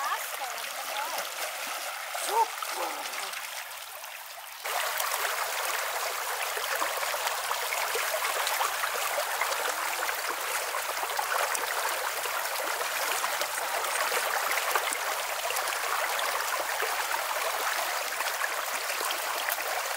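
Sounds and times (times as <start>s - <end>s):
stream running over pebbles: 0.0s - 19.9s.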